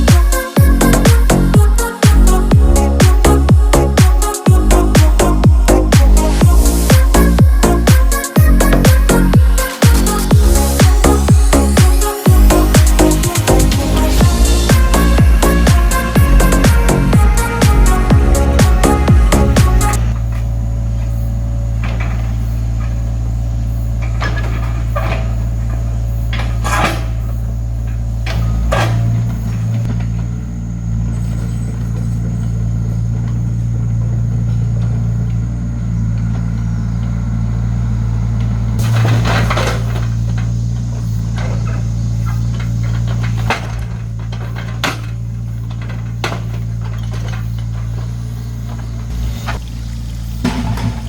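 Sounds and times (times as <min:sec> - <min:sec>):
knocks and clunks: 0:00.0 - 0:51.0
low engine drone: 0:00.0 - 0:51.0
machine humming: 0:00.0 - 0:51.0.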